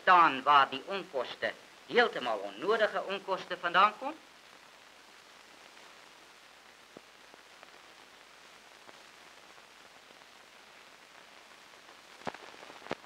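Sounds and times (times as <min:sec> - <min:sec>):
old film soundtrack hiss: 0:00.0 - 0:13.0.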